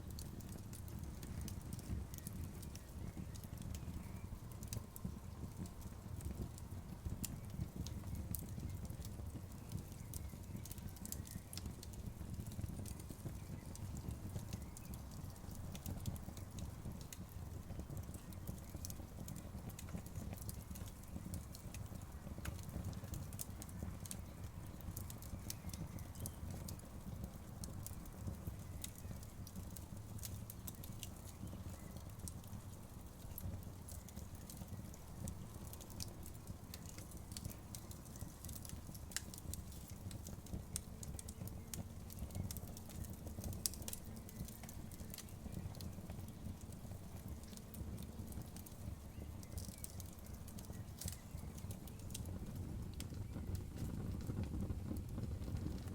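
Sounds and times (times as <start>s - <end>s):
fire crackling and popping: 0.0s - 55.9s
fire rumbling: 0.0s - 55.9s.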